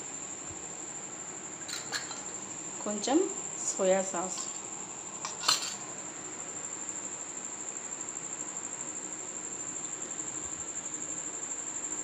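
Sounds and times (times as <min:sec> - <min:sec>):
soft background hiss: 0:00.0 - 0:11.8
crickets chirping: 0:00.0 - 0:12.0.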